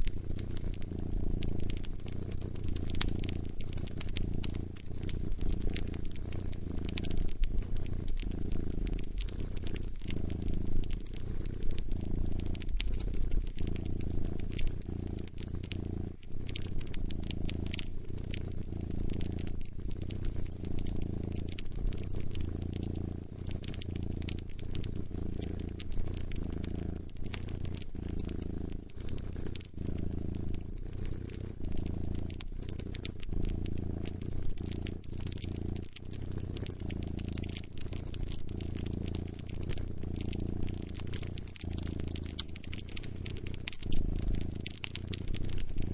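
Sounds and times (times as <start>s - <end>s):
cat purring: 0.0s - 45.9s
wood fire crackling: 0.0s - 45.9s.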